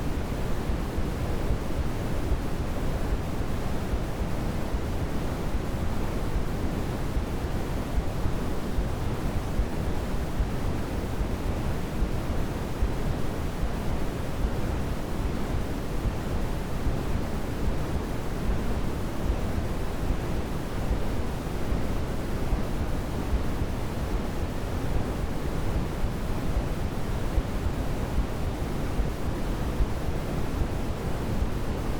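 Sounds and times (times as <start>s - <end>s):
white noise hiss: 0.0s - 31.9s.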